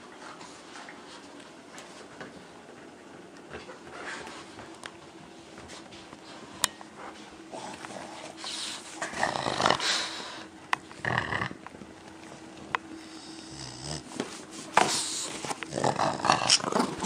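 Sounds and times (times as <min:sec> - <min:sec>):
dogs breathing and scuffling: 0:00.0 - 0:17.0.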